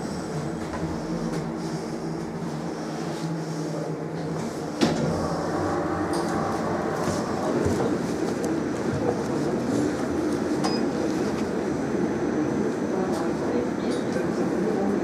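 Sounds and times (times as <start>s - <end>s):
elevator running hum: 0.0s - 15.0s.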